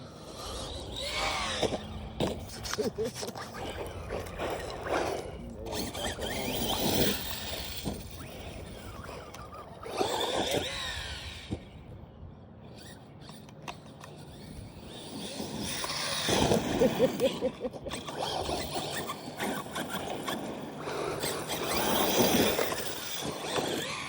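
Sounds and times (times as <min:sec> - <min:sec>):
electric motor whining: 0:00.0 - 0:12.0, 0:12.7 - 0:24.0.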